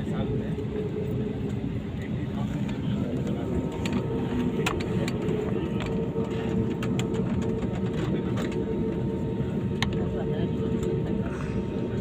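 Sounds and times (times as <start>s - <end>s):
airliner engines and airflow roar: 0.0s - 12.0s
constant hum: 0.0s - 12.0s.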